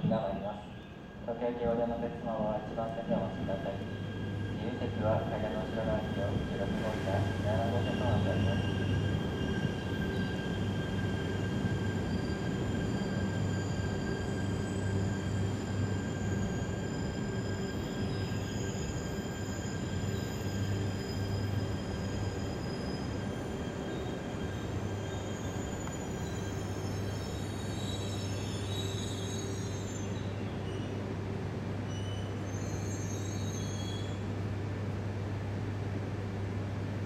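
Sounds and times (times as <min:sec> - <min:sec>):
train low hum: 0:00.0 - 0:37.0.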